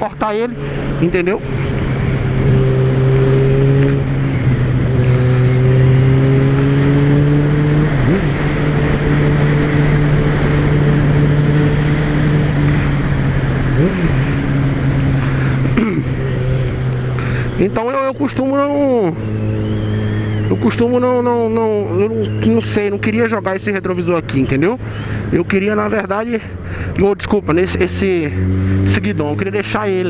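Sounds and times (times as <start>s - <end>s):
motorcycle engine cruising: 0.0s - 30.0s
road noise: 0.0s - 30.0s.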